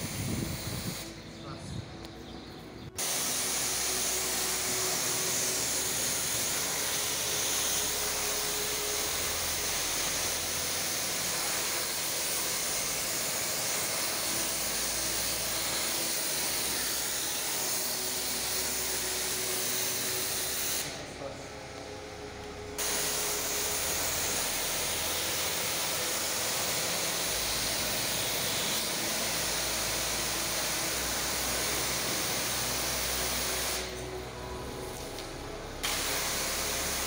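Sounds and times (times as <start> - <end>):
pressure washer spraying: 0.0 - 1.0, 3.0 - 21.0, 22.8 - 34.1, 35.8 - 37.0.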